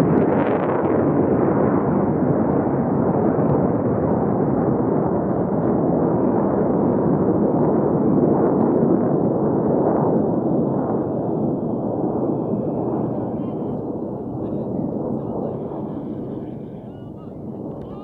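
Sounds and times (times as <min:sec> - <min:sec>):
jet aircraft roar: 0:00.0 - 0:18.0.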